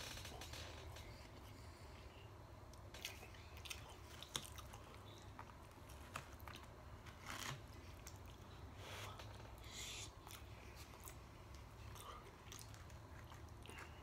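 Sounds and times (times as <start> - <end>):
person chewing: 2.8 - 14.0.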